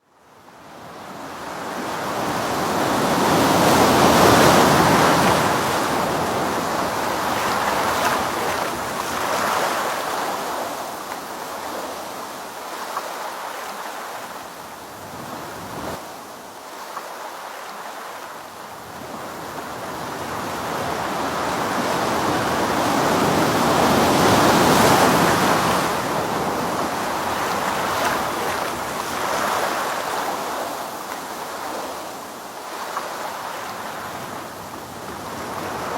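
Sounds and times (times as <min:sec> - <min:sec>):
ocean surf breaking on beach: 0:00.2 - 0:35.9.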